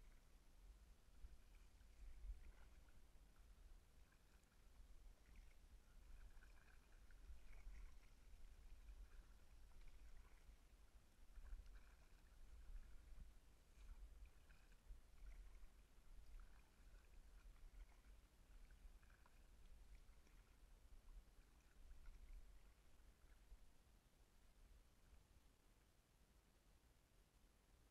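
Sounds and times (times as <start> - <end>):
muffled paddle strokes in water: 0.0 - 25.5.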